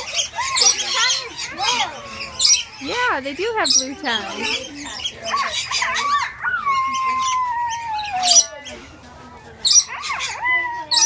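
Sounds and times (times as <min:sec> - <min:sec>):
parrots squawking and chattering: 0:00.0 - 0:11.0.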